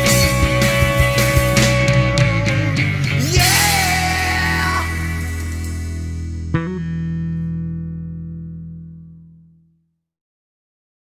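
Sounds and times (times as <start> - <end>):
electric guitar chord ringing: 0.0 - 9.6.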